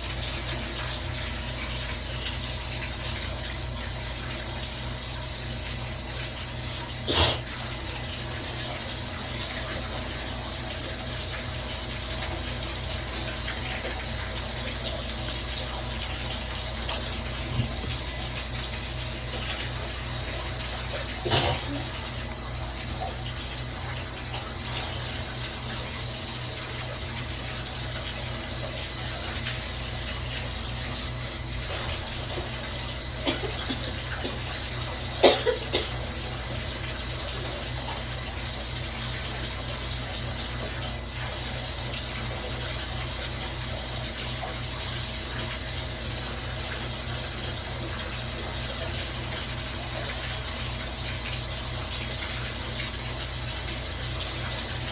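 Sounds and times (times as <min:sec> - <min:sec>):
bath tap running into tub: 0:00.0 - 0:54.9.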